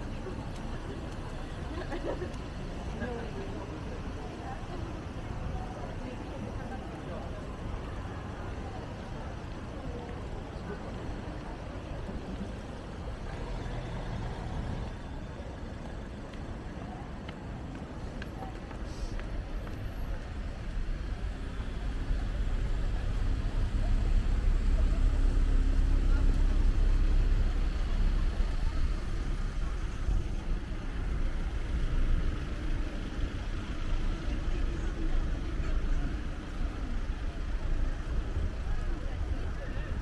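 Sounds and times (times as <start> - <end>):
engine hum: 0.0 - 40.0
road traffic rumble: 0.0 - 40.0.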